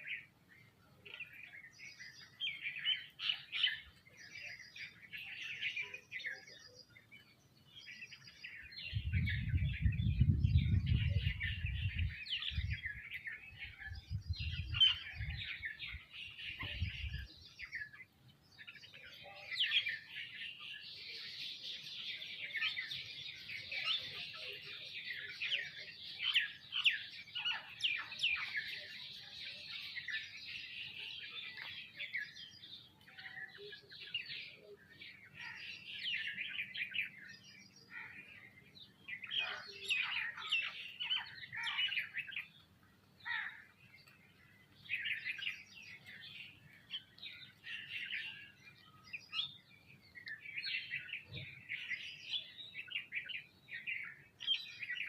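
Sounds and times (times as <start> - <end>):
flock of birds chirping: 0.0 - 55.0.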